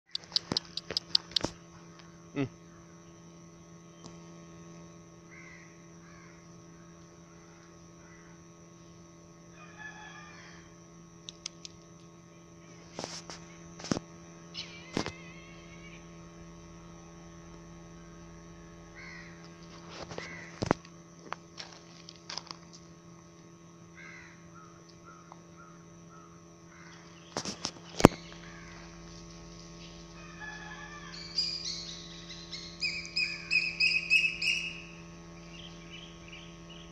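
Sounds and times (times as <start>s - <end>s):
steady low hum: 0.1s - 36.9s.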